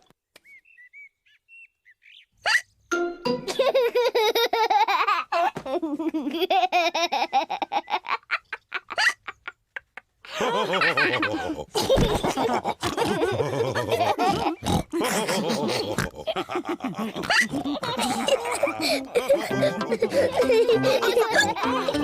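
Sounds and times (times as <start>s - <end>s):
cartoon pigs laughing and snorting: 2.4s - 2.7s, 3.4s - 22.0s.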